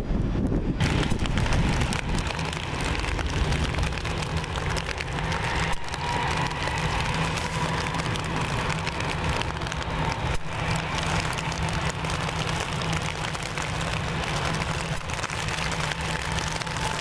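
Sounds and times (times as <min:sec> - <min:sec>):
jet engines rumbling: 0:00.0 - 0:17.0
steady rain: 0:00.8 - 0:17.0.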